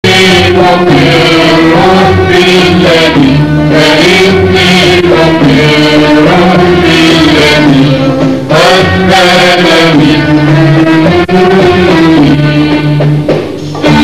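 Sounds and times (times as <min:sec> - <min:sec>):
instrumental accompaniment: 0:00.0 - 0:14.0
man singing long held notes: 0:00.0 - 0:14.0.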